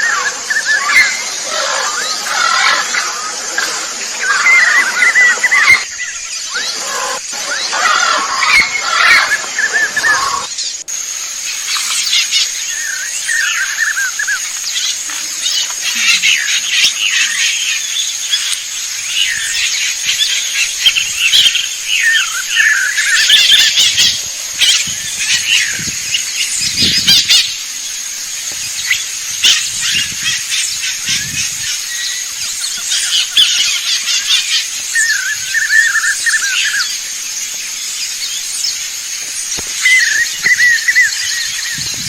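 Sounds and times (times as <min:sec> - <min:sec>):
continuous high-pitched whine: 0:00.0 - 0:42.0
wild birds chirping and singing: 0:00.0 - 0:42.0.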